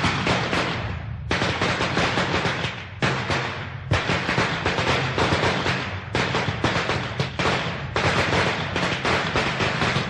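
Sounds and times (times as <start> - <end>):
firecrackers crackling: 0.0 - 10.0.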